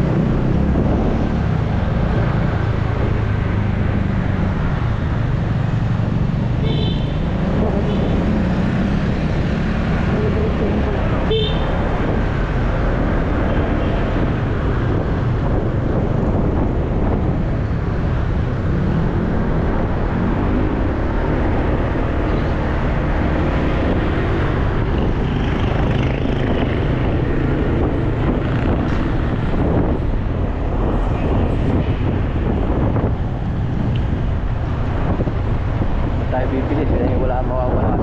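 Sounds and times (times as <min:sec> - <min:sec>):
wind rushing on microphone: 0:00.0 - 0:38.0.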